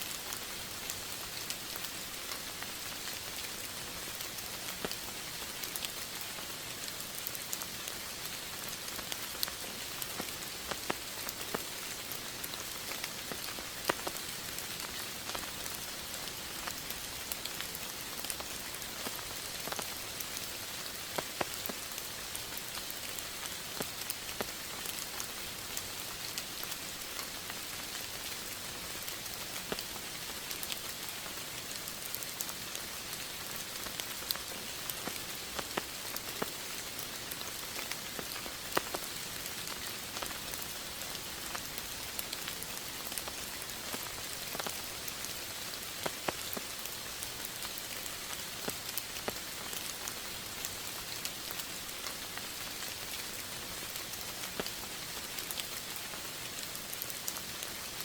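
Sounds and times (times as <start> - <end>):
steady rain: 0.0 - 58.0
raindrops striking close by: 0.1 - 58.0.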